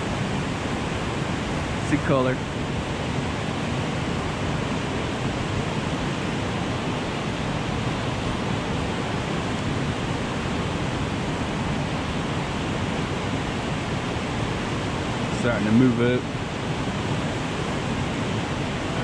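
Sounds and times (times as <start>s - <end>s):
whitewater rushing through rapids: 0.0s - 19.0s.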